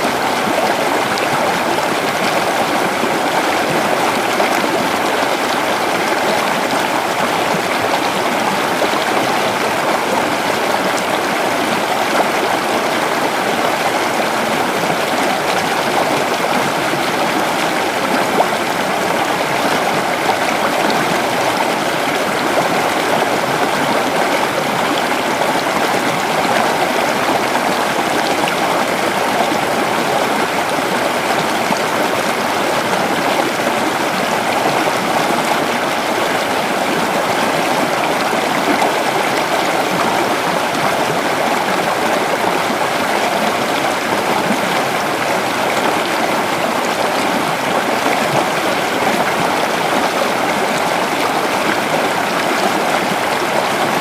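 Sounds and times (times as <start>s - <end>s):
creek water babbling over rocks: 0.0s - 54.0s.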